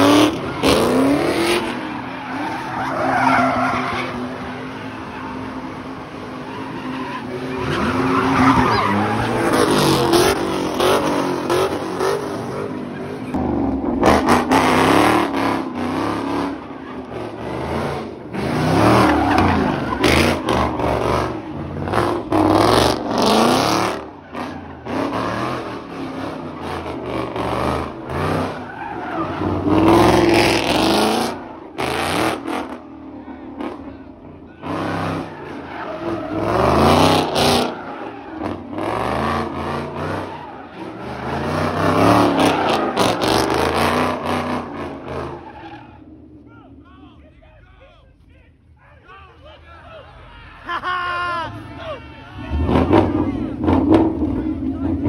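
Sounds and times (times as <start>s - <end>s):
car engine revving: 0.0s - 46.4s, 52.4s - 55.0s
tyres skidding and squealing: 0.0s - 55.0s.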